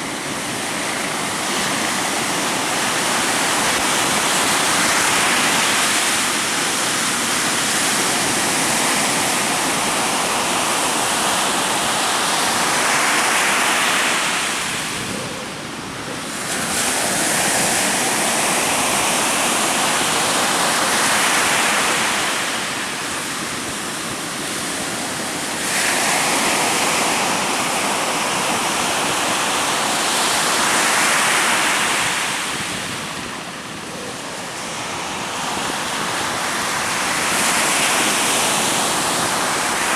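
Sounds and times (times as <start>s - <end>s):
ocean waves breaking: 0.0s - 39.9s
strong wind: 0.0s - 39.9s.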